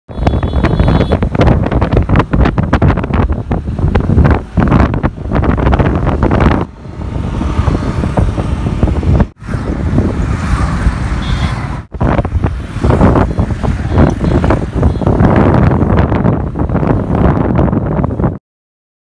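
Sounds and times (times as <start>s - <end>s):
road traffic: 0.1s - 18.4s
wind rumbling on microphone: 0.1s - 18.4s.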